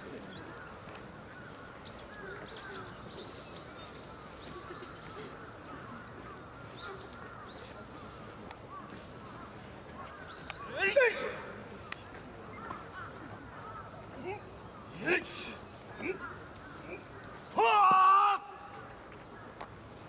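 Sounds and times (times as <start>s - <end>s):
small birds chirping: 0.0s - 17.6s
outdoor background hiss: 0.0s - 20.0s.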